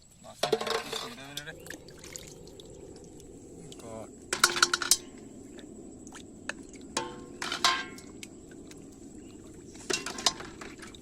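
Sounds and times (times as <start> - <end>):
steady background hiss: 0.0 - 11.0
water splashing and sloshing: 0.4 - 11.0.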